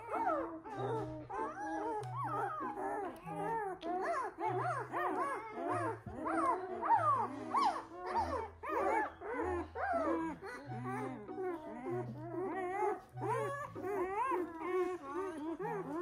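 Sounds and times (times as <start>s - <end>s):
background music with low bass: 0.0s - 16.0s
puppies squealing and whimpering: 0.0s - 16.0s.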